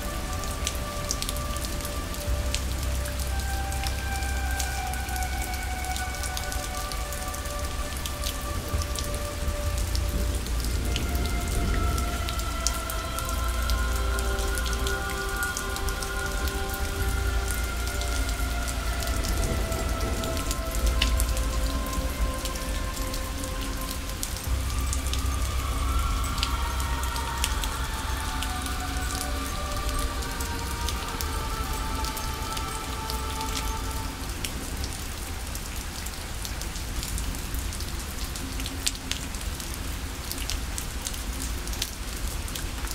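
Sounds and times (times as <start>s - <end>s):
low rumble: 0.0s - 42.9s
rain hissing: 0.0s - 42.9s
raindrop ticks: 0.0s - 42.9s
soft ambient music: 0.0s - 42.9s.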